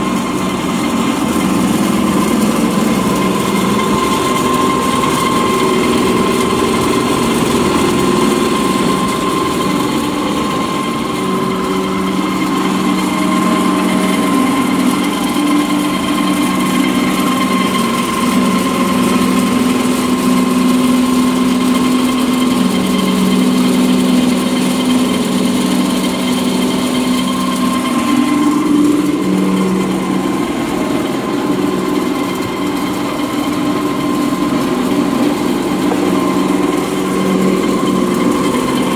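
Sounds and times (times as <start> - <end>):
pellet mill humming with high whine: 0.0 - 38.9.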